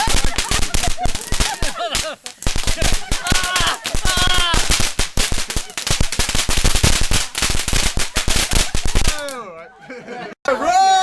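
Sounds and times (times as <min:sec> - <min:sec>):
fireworks bangs and crackles: 0:00.0 - 0:09.4.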